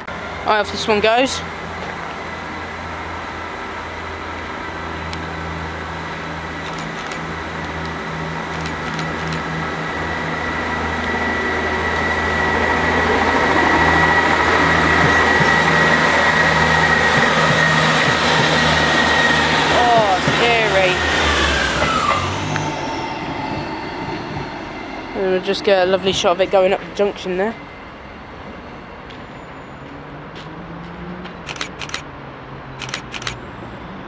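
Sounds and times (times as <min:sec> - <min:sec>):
diesel train engine drone: 0:00.0 - 0:34.0.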